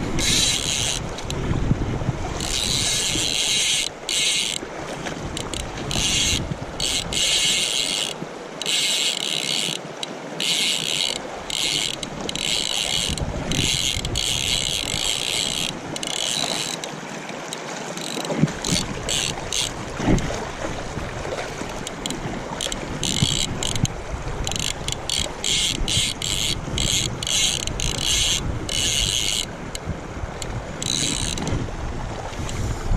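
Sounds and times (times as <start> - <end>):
fly reel ratcheting: 0.1 - 1.4, 2.4 - 4.7, 5.3 - 16.9, 17.5 - 19.8, 21.8 - 29.8, 30.4 - 31.5.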